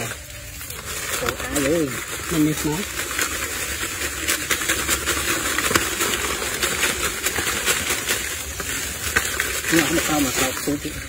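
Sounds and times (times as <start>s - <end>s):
leafy twigs rustling and crackling: 0.0s - 11.0s.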